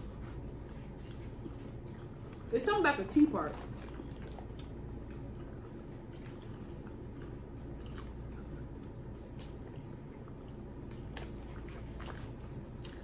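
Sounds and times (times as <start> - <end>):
low steady hum: 0.0 - 13.0
wet chewing and squishing: 0.0 - 13.0.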